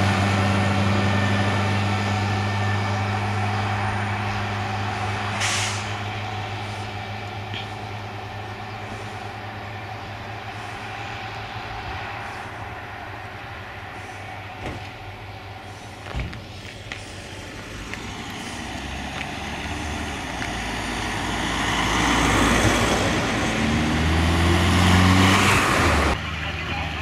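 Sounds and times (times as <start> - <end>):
fire truck diesel engine: 0.0 - 27.0.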